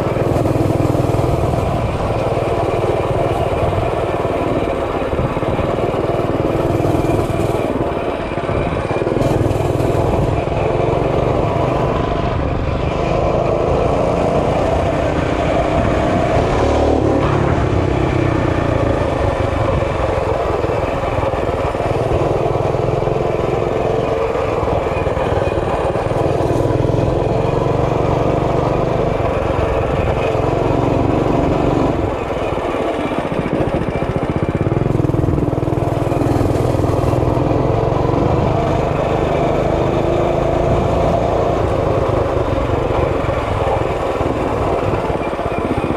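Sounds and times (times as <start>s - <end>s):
small bike engine revving: 0.0s - 45.9s.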